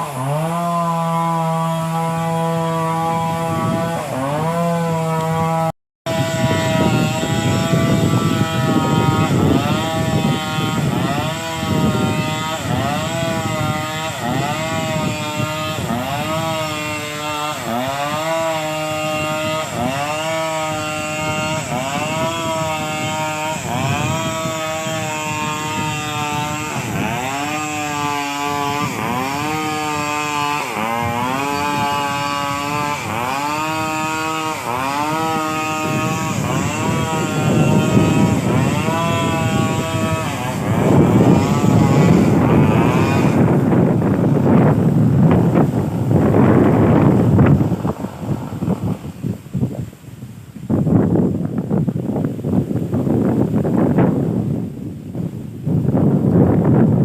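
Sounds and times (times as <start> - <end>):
small engine under load: 0.0 - 54.4.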